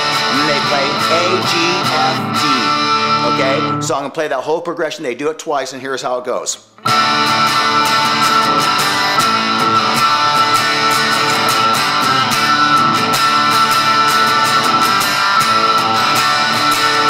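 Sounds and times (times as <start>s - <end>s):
electric guitar strummed fast: 0.0s - 3.9s, 6.8s - 17.0s.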